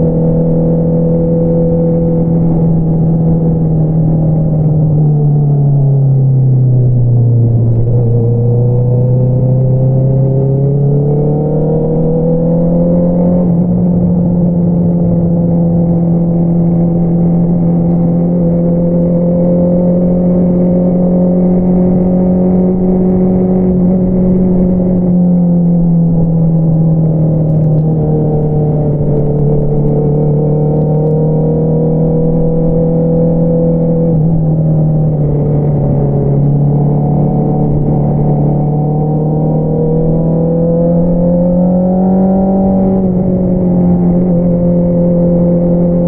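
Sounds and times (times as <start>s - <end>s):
motorcycle engine revving: 7.1s - 46.0s.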